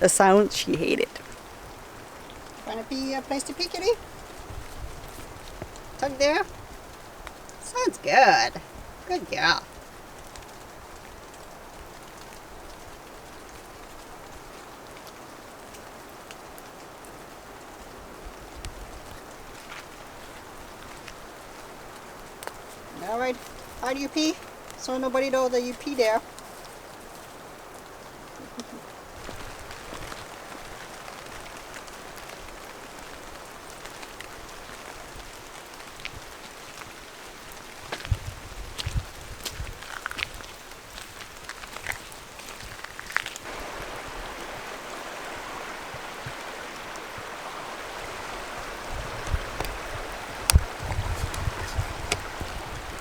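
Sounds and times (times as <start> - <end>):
light rain hissing: 0.0 - 53.0
raindrop ticks: 0.0 - 53.0.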